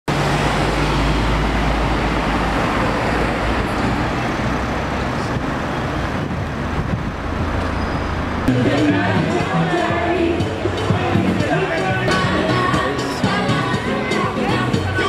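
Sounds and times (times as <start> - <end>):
passing vehicles rushing: 0.1 - 15.0.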